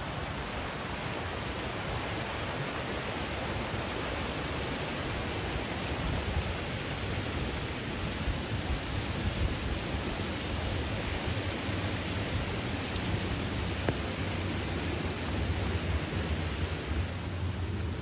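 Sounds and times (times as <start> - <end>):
stream running over rocks: 0.0 - 18.0.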